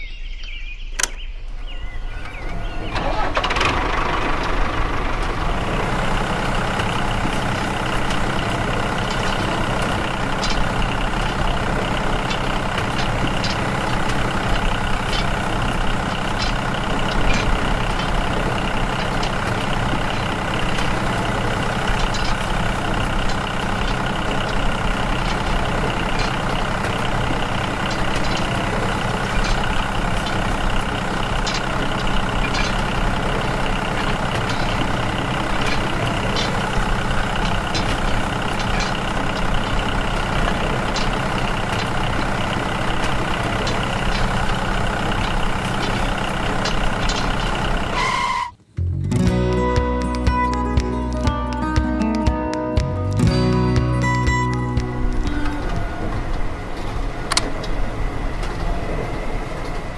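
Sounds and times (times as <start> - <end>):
tractor engine running: 0.3 - 59.9.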